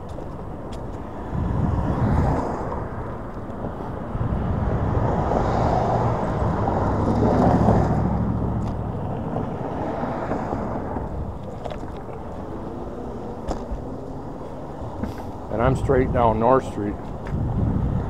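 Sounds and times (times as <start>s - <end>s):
scooter tyre road rumble: 0.0s - 18.0s
wind rushing over microphone: 0.0s - 18.0s.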